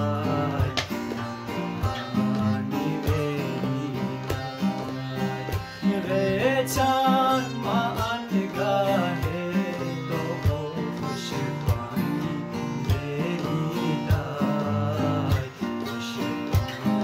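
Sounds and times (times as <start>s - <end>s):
percussion strikes: 0.0s - 17.0s
plucked string instruments: 0.0s - 17.0s.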